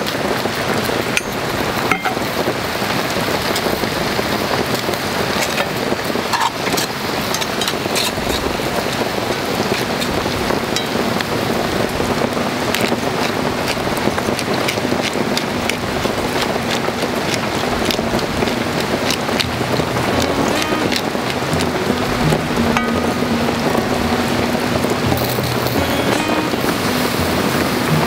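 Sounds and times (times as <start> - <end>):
food sizzling in a skillet: 0.0 - 28.0
sharp pops and crackles: 0.0 - 28.0.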